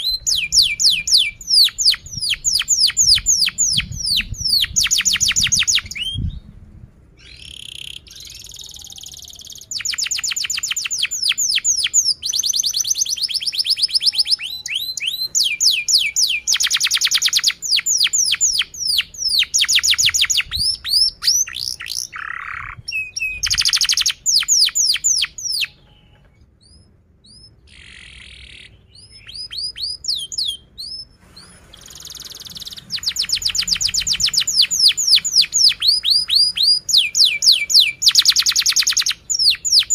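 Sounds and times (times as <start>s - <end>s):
canary singing trills: 0.0s - 6.5s, 7.2s - 39.9s.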